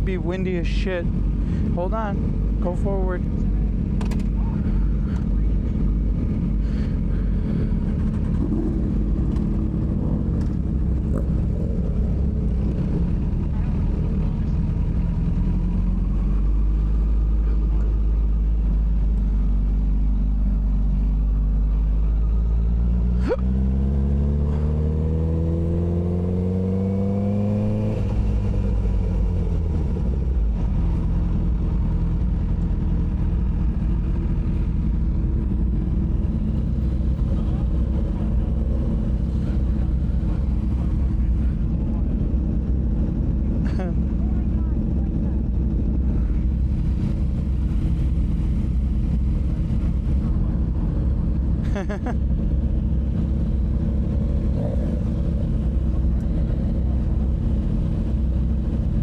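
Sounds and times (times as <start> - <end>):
motorcycle engine revving: 1.2 - 59.0.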